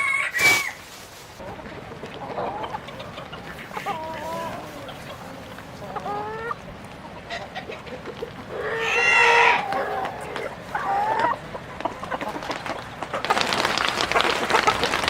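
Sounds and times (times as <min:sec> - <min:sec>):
hen calling: 0:01.4 - 0:15.0.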